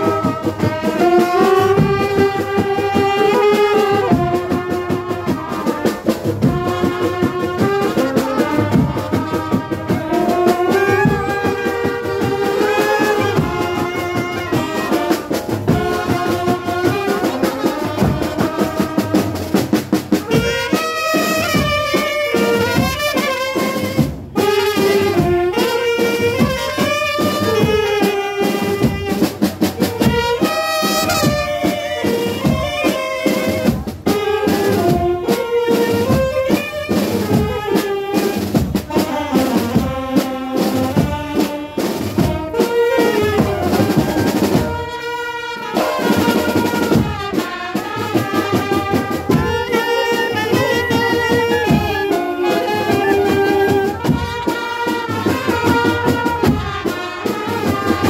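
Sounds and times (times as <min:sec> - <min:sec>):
brass band playing: 0:00.0 - 0:58.0
driving drumbeats: 0:00.0 - 0:58.0.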